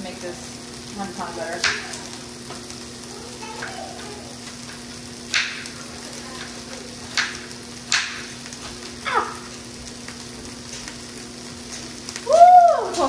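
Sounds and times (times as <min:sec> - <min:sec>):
meat and peppers sizzling in pans: 0:00.0 - 0:13.0.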